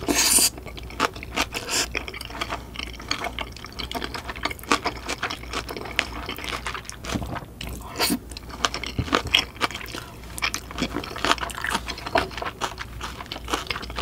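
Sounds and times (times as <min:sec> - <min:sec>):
wet chewing with mouth clicks: 0:00.0 - 0:14.0.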